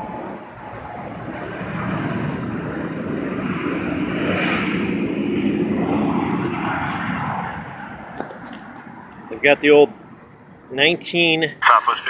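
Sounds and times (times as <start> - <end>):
aircraft engine rushing: 0.0 - 12.0.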